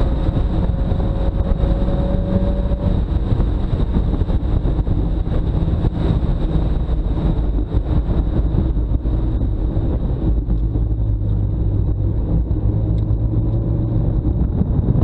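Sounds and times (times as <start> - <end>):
car engine running: 0.0 - 15.0
road and wind noise: 0.0 - 15.0.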